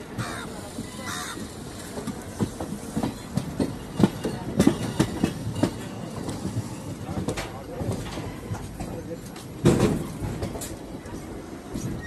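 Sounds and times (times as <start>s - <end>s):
train wheels clattering over rail joints: 0.0s - 12.0s.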